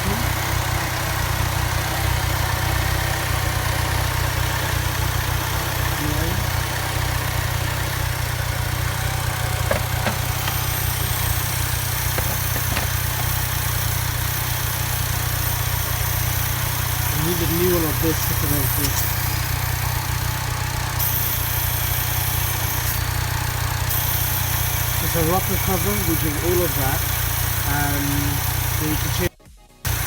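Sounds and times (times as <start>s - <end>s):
car engine idling: 0.0s - 29.3s.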